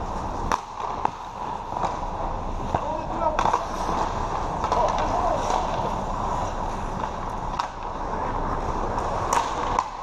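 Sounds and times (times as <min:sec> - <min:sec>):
skate blades scraping on ice: 0:00.0 - 0:10.0
hockey sticks clicking: 0:00.1 - 0:10.0
sharp crack: 0:00.4 - 0:02.1, 0:02.7 - 0:08.0, 0:08.9 - 0:10.0.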